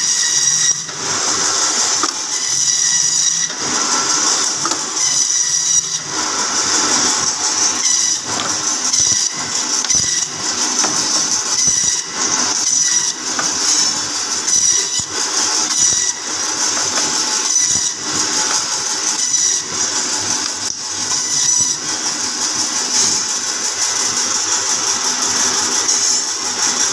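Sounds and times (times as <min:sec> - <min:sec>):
meat band saw whining: 0:00.0 - 0:26.9.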